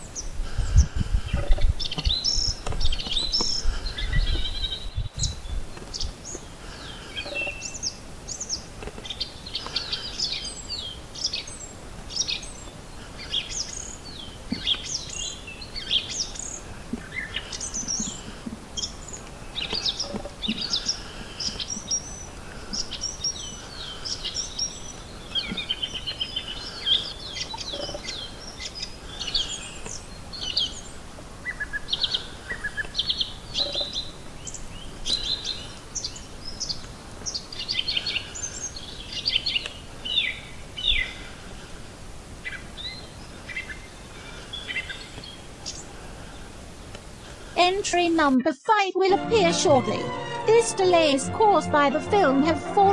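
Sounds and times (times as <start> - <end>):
warbler singing: 0.0 - 48.3.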